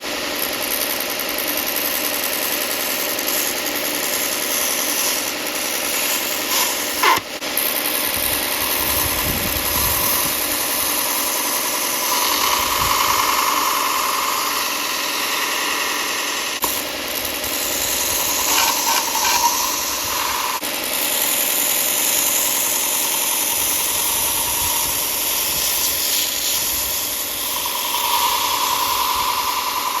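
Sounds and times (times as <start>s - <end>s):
power sander sanding foam: 2.2s - 30.0s.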